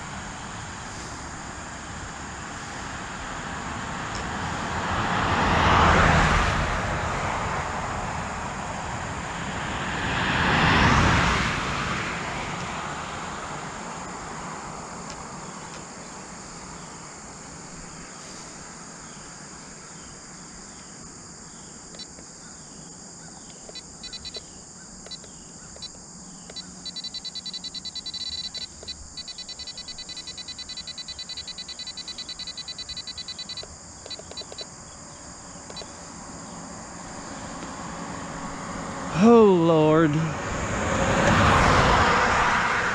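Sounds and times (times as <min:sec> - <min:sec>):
cars passing on highway: 0:00.0 - 0:42.9
insects chirping: 0:00.0 - 0:42.9.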